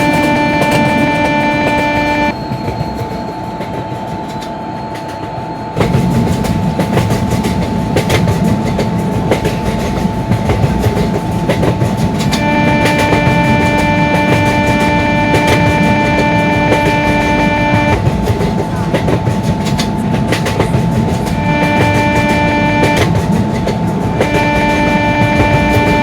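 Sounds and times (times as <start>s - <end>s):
train wheels clacking over rails: 0.0s - 26.0s.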